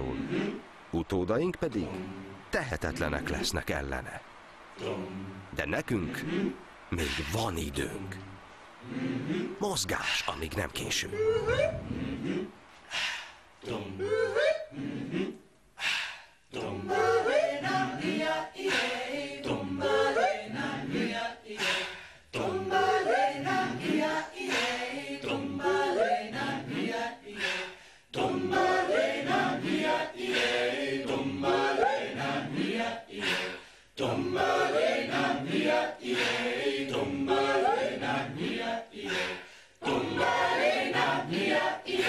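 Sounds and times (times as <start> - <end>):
choir singing a cappella chant: 0.0 - 42.0.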